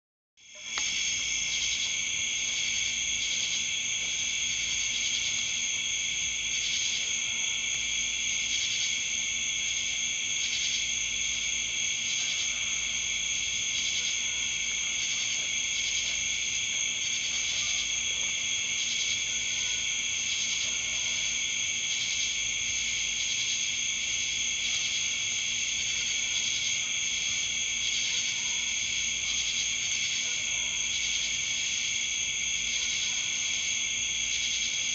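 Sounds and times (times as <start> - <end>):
crickets chirping: 0.4 - 34.9.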